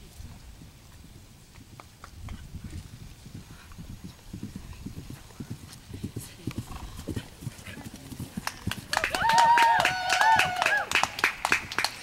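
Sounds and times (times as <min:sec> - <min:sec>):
horse hoofbeats on grass: 0:00.0 - 0:11.7.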